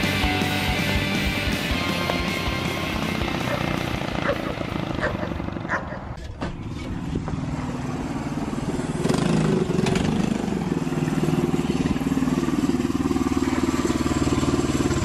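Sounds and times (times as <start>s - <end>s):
mini bike engine running: 0.0s - 15.0s.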